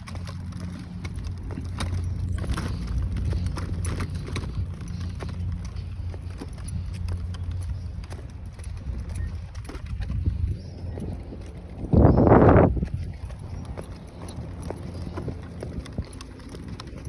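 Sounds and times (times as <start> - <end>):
footsteps on path: 0.0 - 17.0
stroller wheels rolling: 0.0 - 17.0.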